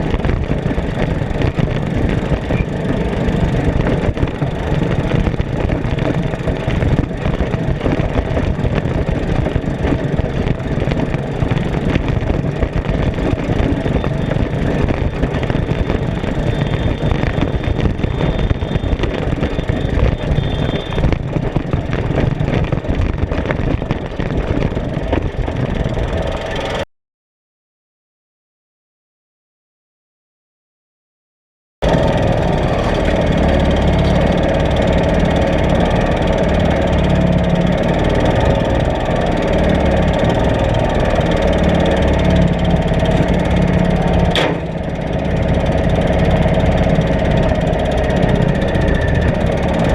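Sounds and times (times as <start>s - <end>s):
race vehicle engine: 0.0s - 26.8s, 31.8s - 49.9s.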